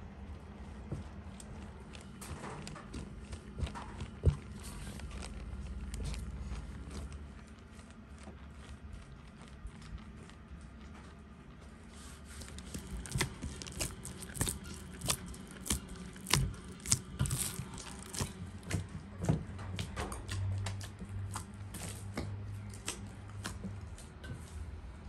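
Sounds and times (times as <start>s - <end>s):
dough being kneaded by hand: 0.0s - 25.0s.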